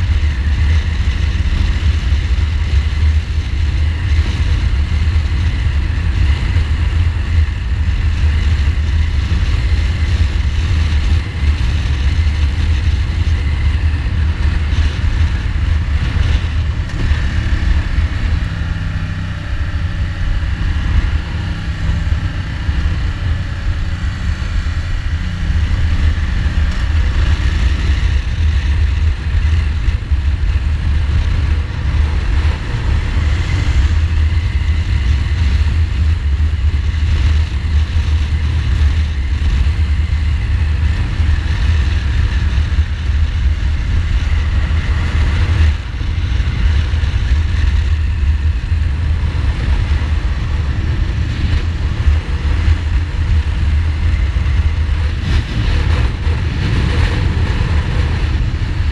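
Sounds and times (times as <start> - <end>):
motorcycle engine running: 0.0 - 58.9
wind rumble on microphone: 0.0 - 58.9.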